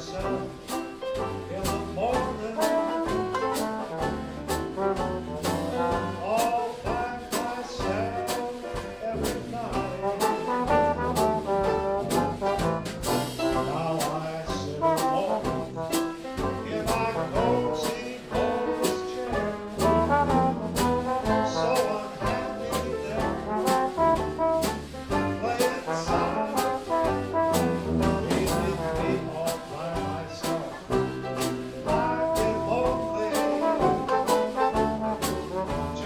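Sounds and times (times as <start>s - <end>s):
drum beat: 0.0s - 36.0s
jazz band playing: 0.0s - 36.0s
trombone: 0.0s - 36.0s
trumpet: 0.0s - 36.0s.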